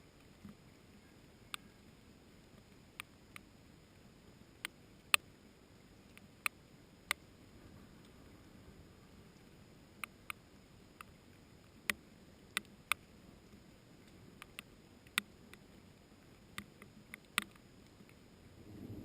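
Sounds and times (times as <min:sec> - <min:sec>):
faint rain hiss: 0:00.0 - 0:19.0.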